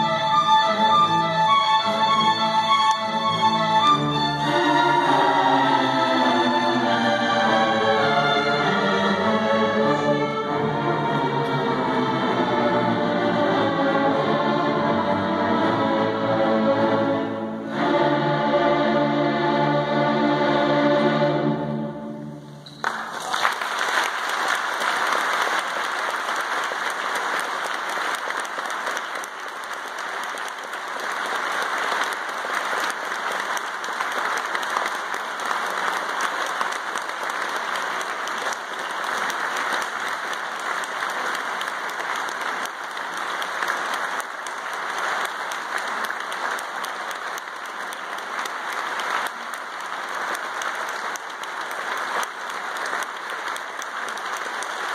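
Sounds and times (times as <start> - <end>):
audience applauding: 0.6 - 13.8, 22.6 - 54.9.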